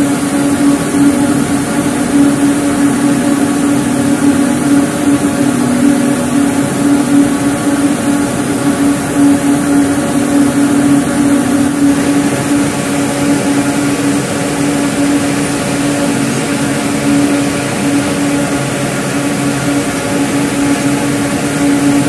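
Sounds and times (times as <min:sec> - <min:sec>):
spinning machine droning: 0:00.0 - 0:22.0.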